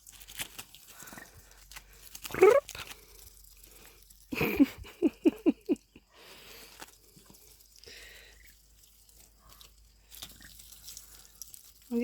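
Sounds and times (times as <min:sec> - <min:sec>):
duck pecking and munching lettuce: 0:00.0 - 0:12.0.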